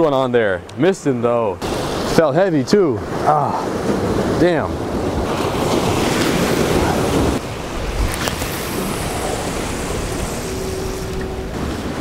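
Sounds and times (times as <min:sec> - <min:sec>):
surf breaking on rocks: 0:01.6 - 0:12.0
wind buffeting microphone: 0:01.6 - 0:12.0.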